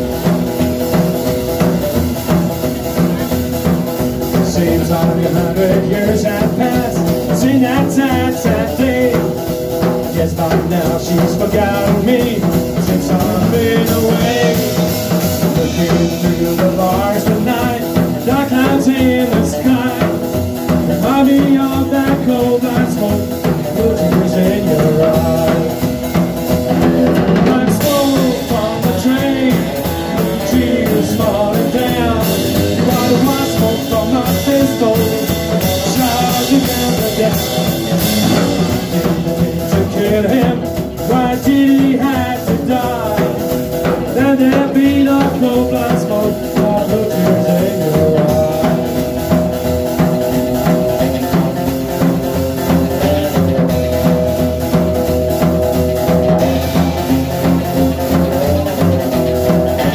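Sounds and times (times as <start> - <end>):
rock and roll band playing: 0.0 - 59.9.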